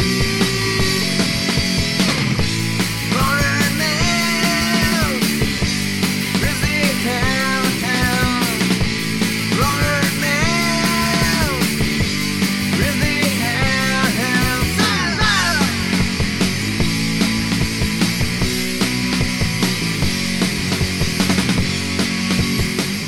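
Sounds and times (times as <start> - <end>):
rock music with steady beat: 0.0 - 23.0.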